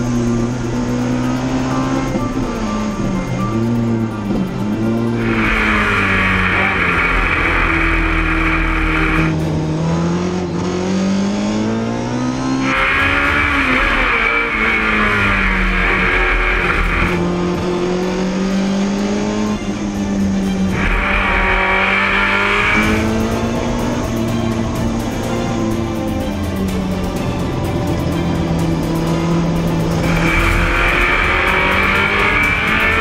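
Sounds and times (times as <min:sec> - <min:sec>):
race car engine under load: 0:00.0 - 0:33.0.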